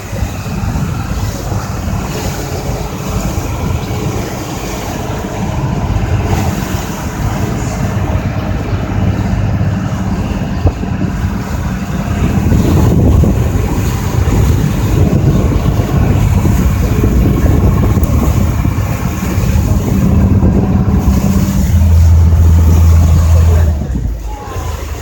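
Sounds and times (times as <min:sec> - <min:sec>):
ferry engine humming: 0:00.0 - 0:25.0
water rushing past hull: 0:00.0 - 0:25.0
wind on microphone: 0:00.0 - 0:25.0.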